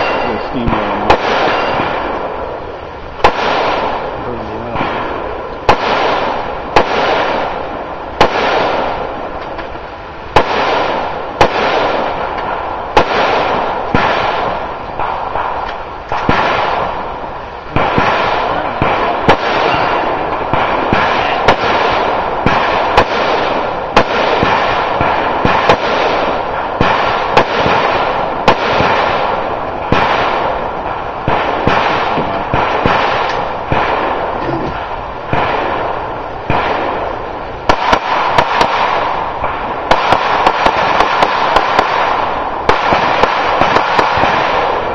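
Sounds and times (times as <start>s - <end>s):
gunshots echoing: 0.0s - 44.9s.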